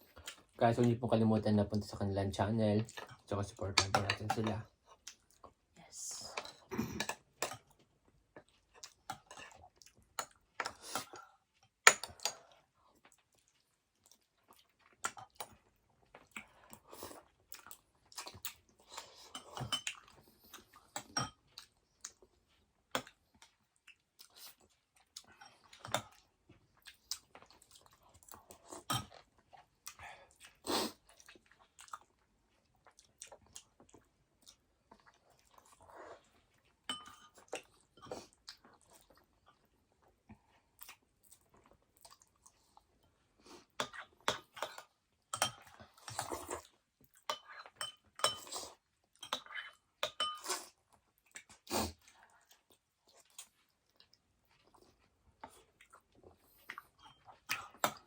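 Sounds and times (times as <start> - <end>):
person chewing food: 0.0 - 0.6, 4.8 - 5.6, 6.6 - 58.0.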